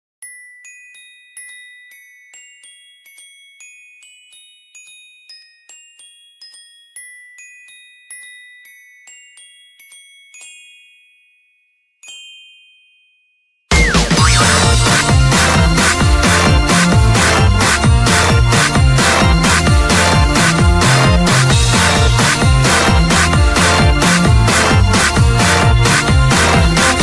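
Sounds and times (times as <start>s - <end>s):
glockenspiel-like bell notes: 0.2s - 27.0s.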